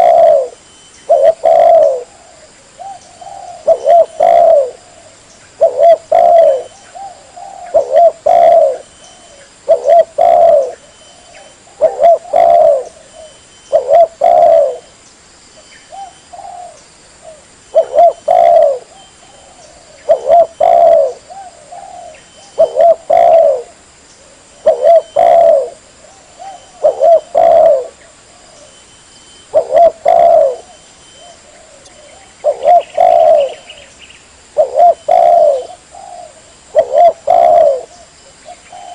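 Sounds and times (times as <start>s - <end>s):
dove cooing: 0.0s - 14.9s, 15.9s - 28.7s, 29.4s - 33.9s, 34.5s - 38.9s.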